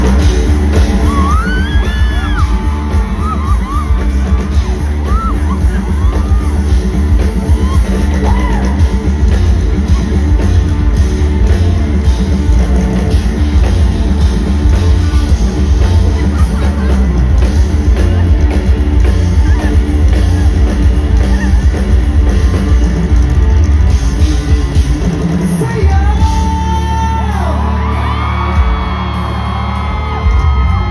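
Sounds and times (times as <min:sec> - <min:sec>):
crowd singing and whooping: 0:00.0 - 0:30.9
live rock band playing: 0:00.0 - 0:30.9.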